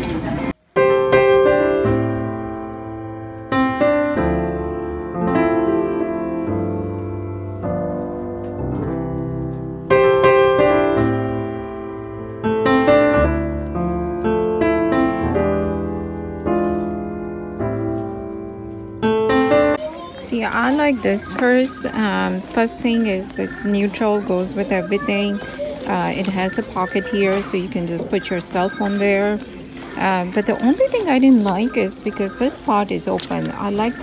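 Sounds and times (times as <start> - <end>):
piano music: 0.6 - 34.0.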